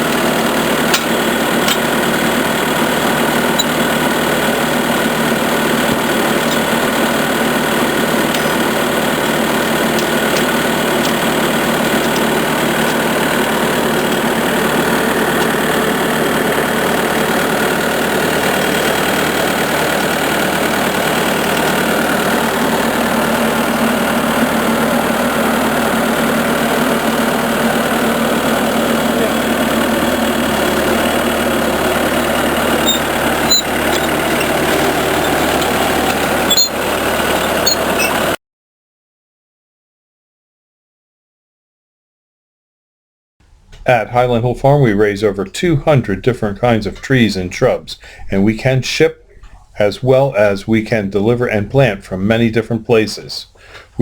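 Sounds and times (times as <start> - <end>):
skid steer engine running: 0.0 - 38.4, 43.6 - 52.5.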